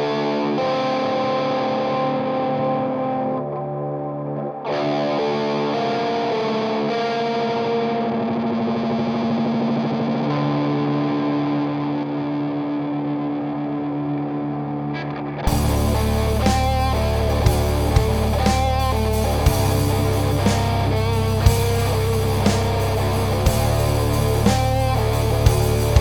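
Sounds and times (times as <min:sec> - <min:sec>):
distorted electric guitar chords: 0:00.0 - 0:26.0.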